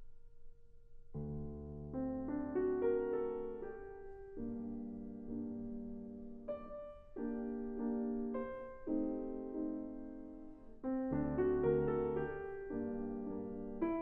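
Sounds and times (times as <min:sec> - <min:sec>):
grand piano chords: 0:01.1 - 0:14.0.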